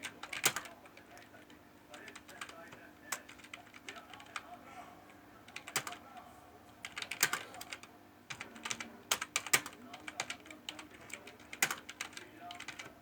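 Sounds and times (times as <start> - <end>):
laptop keyboard typing: 0.0 - 4.6, 5.4 - 13.0.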